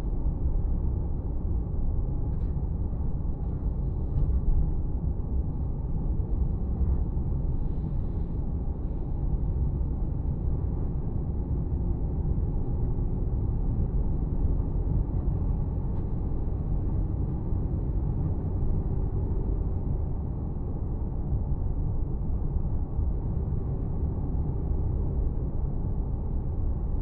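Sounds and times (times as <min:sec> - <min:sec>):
faint steady hum: 0:00.0 - 0:27.0
road vehicle engine and tyre noise: 0:00.2 - 0:27.0.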